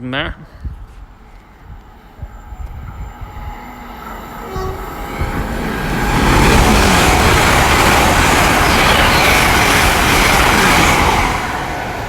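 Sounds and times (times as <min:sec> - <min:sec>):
train passing at speed: 0:00.1 - 0:12.0.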